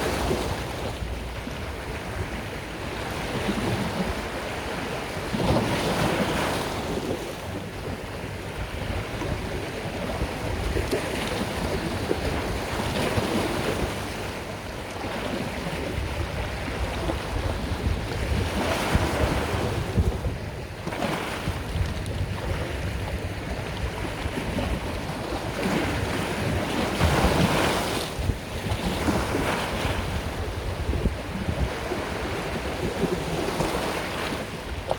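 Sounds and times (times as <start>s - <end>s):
sea waves washing onto shore: 0.0s - 34.9s
wind rumble on microphone: 0.0s - 34.9s.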